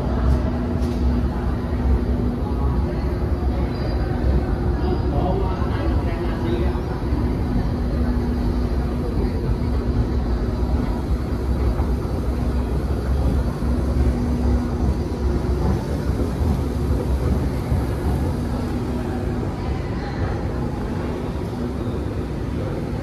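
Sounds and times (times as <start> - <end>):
escalator rumbling: 0.0 - 23.0.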